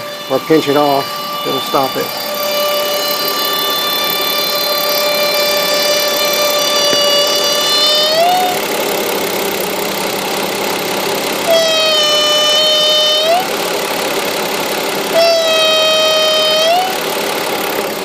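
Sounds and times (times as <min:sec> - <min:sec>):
car engine idling: 0:00.0 - 0:18.0
high whistle from engine hose: 0:00.0 - 0:18.0.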